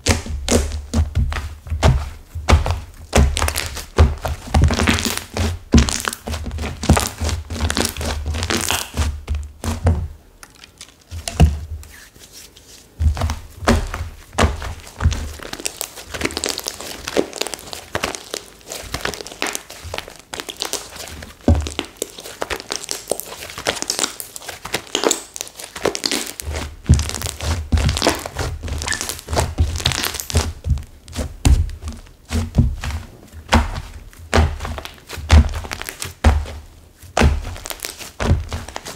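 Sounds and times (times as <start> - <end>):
clay slime crackling: 0.0 - 38.9.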